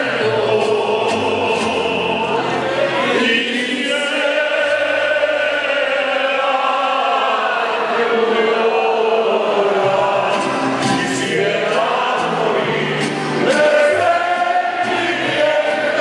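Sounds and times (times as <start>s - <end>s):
group singing: 0.0s - 16.0s
violins and guitars: 0.0s - 16.0s.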